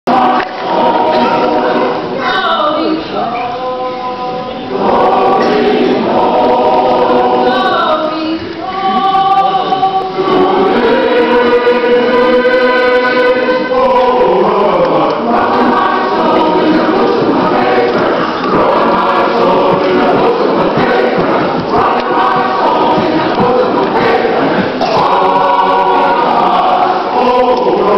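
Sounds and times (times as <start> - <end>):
group singing a hymn: 0.1 - 27.9.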